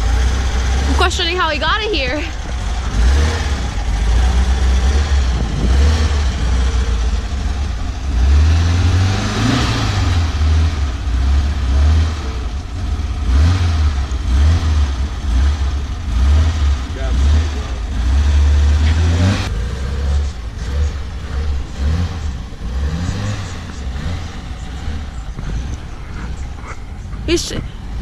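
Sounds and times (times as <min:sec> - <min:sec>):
van engine revving roughly: 0:00.0 - 0:28.0.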